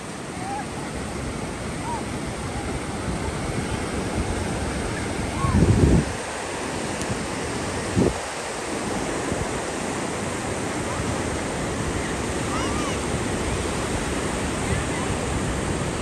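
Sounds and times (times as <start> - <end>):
ocean surf washing in: 0.0 - 16.0
wind on the microphone: 0.0 - 16.0.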